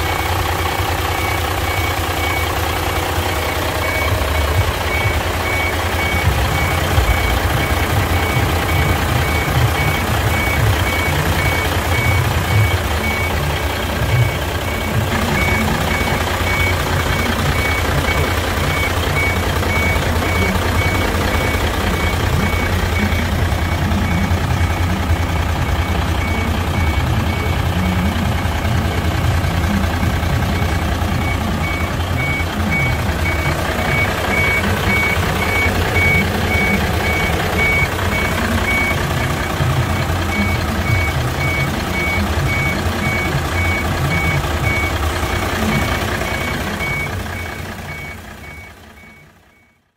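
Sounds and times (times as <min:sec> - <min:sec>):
reversing alarm beeping: 0:00.0 - 0:49.9
truck engine rumbling: 0:00.0 - 0:49.9.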